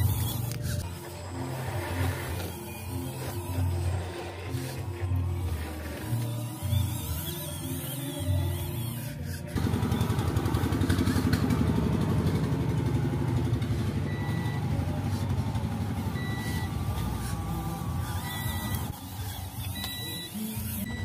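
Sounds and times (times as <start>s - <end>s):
simulated truck engine throb: 0.0s - 21.0s.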